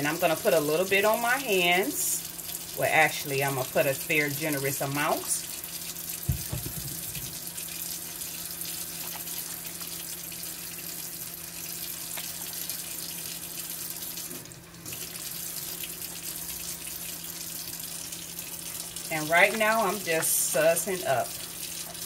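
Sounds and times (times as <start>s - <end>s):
faucet running into sink: 0.0s - 22.0s.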